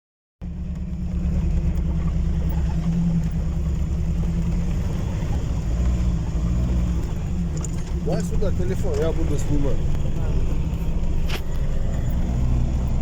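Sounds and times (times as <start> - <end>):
vehicle engine running: 0.4 - 13.0.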